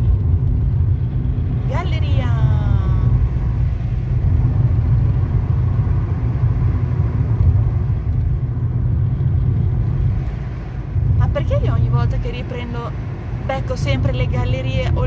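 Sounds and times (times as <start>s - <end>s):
car interior road noise: 0.0s - 15.0s.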